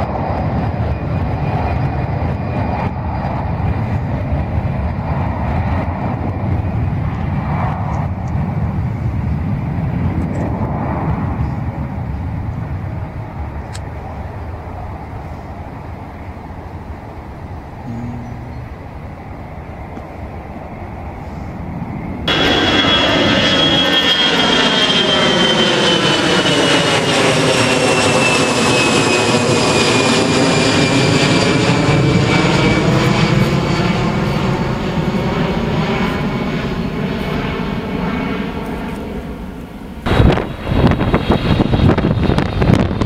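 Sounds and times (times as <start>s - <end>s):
jet airliner flying overhead: 0.0s - 43.0s.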